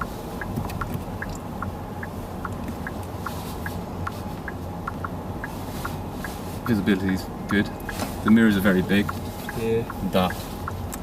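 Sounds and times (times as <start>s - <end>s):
light even ticking: 0.0s - 11.0s
road and tyre rumble: 0.0s - 11.0s.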